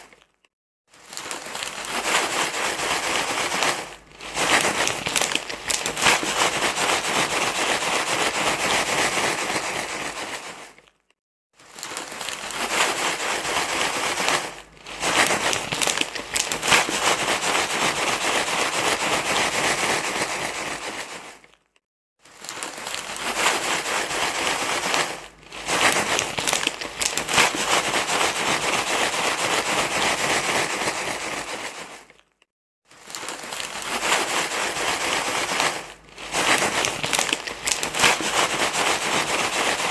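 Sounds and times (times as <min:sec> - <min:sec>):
crinkling and rustling: 0:00.0 - 0:39.9.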